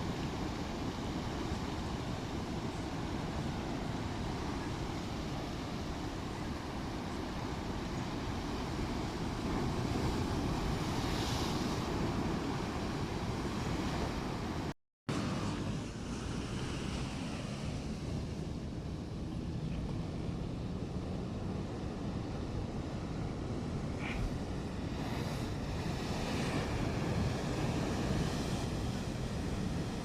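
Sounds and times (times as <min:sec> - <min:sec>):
sea waves: 0:00.0 - 0:30.0.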